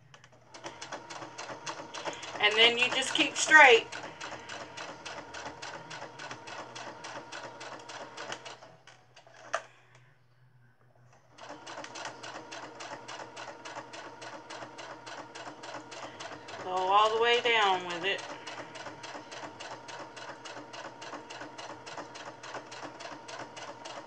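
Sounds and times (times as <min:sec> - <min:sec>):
sewing machine stitching: 0:00.5 - 0:09.6, 0:11.3 - 0:24.0.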